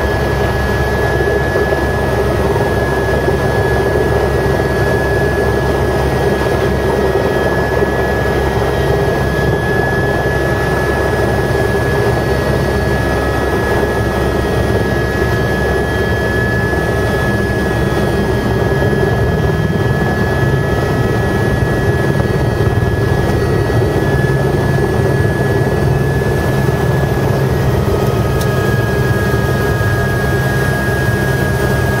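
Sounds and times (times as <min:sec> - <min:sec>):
helicopter rotor drone: 0:00.0 - 0:32.0
helicopter turbine whine: 0:00.0 - 0:32.0.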